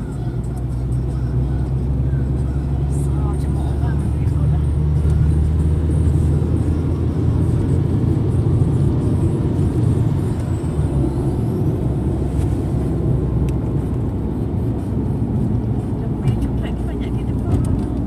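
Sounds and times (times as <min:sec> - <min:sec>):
car driving rumble inside cabin: 0:00.0 - 0:18.0.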